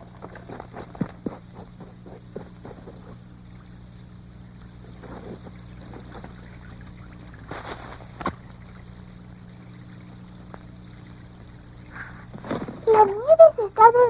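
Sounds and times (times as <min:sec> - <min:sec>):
melting snow trickling and dripping: 0:00.0 - 0:14.0
steady low hum: 0:00.0 - 0:14.0.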